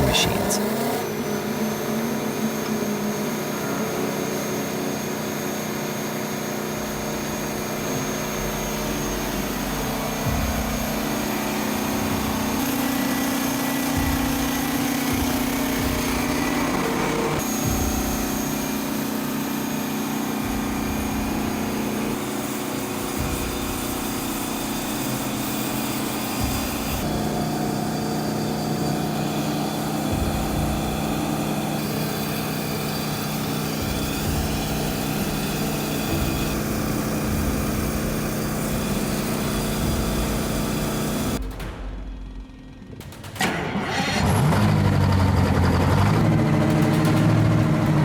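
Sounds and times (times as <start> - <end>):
diesel engine droning: 0.0 - 22.4, 26.4 - 48.0.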